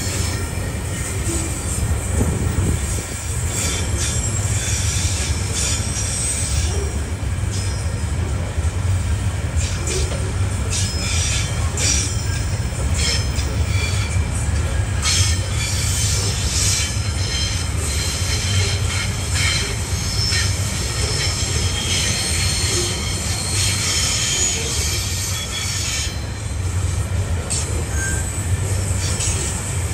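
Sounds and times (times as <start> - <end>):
train wheels squealing: 0.0 - 8.6, 9.5 - 29.9
freight train rumbling past: 0.0 - 29.9.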